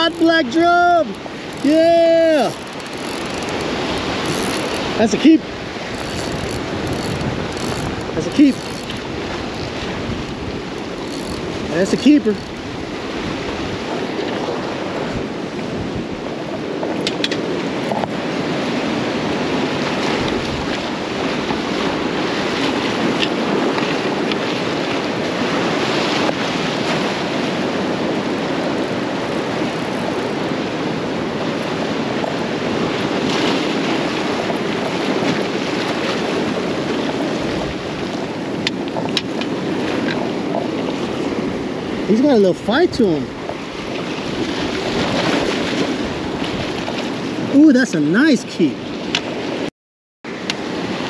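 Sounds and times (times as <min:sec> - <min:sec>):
surf washing against rocks: 0:00.0 - 0:49.7, 0:50.3 - 0:51.0.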